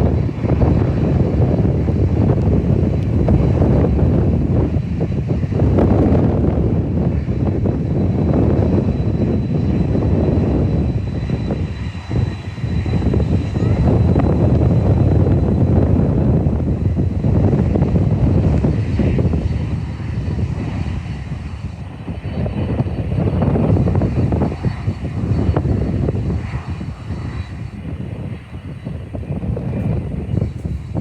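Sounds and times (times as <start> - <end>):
jet engines deep rumble: 0.0 - 31.0.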